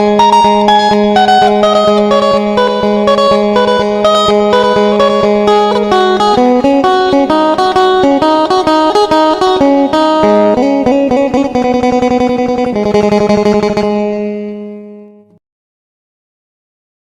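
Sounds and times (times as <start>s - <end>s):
plucked string melody: 0.0s - 15.4s.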